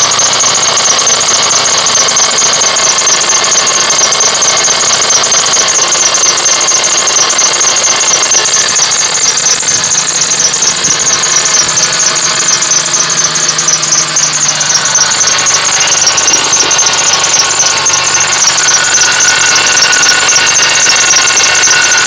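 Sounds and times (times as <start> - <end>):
car engine running: 0.0 - 22.0
high-pitched squeak from engine: 0.0 - 22.0.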